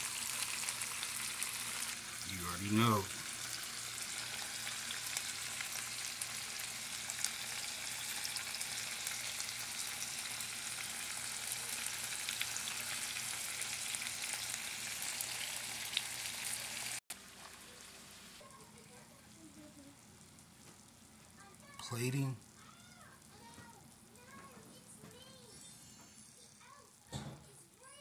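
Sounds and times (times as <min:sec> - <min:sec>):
marinade sizzling in a hot pan: 0:00.0 - 0:28.0.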